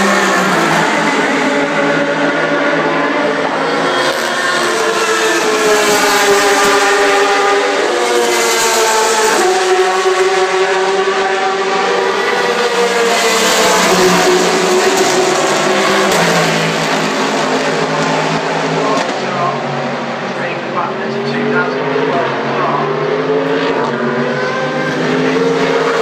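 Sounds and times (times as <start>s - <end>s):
race cars passing by: 0.0s - 26.0s.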